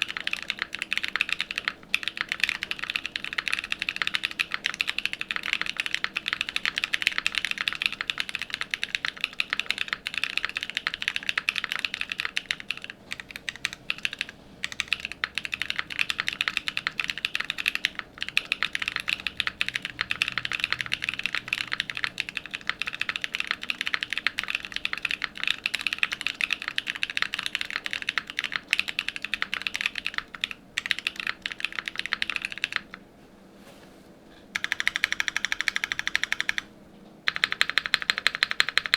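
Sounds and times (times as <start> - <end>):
fast mechanical keyboard typing: 0.0 - 33.0, 34.6 - 38.9.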